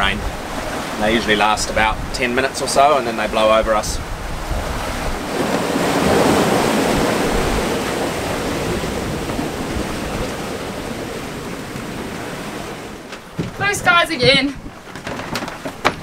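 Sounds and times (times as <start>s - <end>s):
rough sea rushing: 0.0s - 16.0s
squall wind: 0.0s - 16.0s
wind buffeting microphone: 0.0s - 16.0s.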